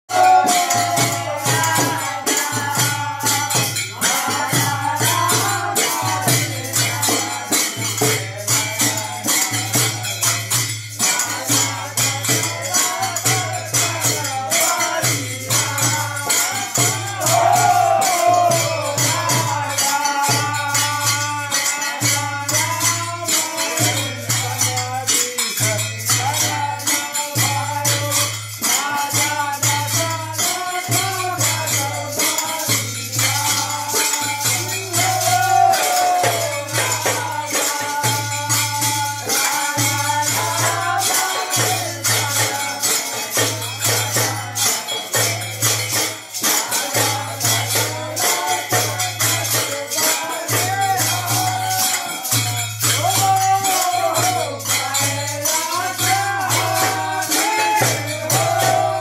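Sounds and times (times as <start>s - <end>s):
men singing together: 0.0s - 59.0s
hand cymbals: 0.1s - 59.0s.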